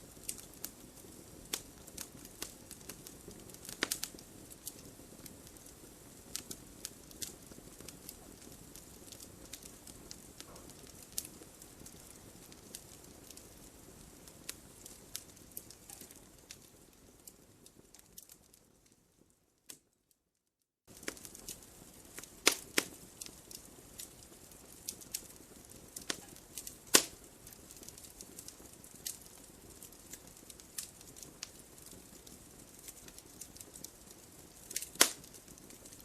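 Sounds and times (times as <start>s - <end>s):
wood fire crackling and popping: 0.0s - 20.1s, 20.9s - 36.0s
soft hiss of burning: 0.0s - 20.2s, 20.9s - 36.0s.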